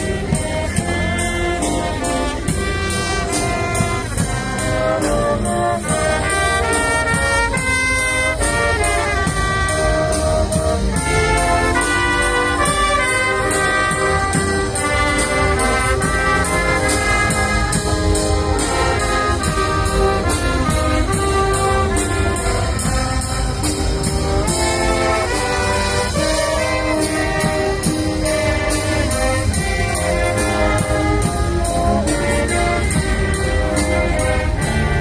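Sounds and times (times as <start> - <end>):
brass music with steady beat: 0.0 - 35.0.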